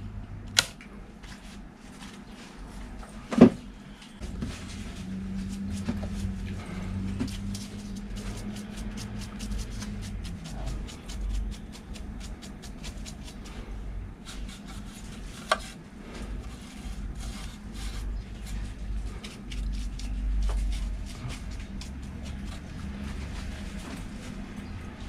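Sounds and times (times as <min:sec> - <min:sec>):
low steady hum: 0:00.0 - 0:25.0
paintbrush sweeping scratchy strokes: 0:04.3 - 0:25.0.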